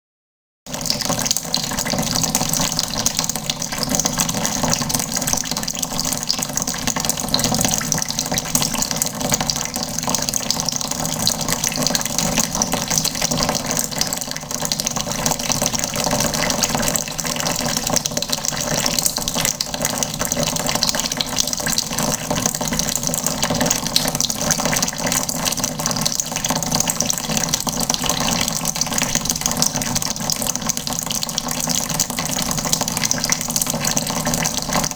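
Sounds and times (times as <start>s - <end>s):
tap water into plastic bucket: 0.7s - 34.9s.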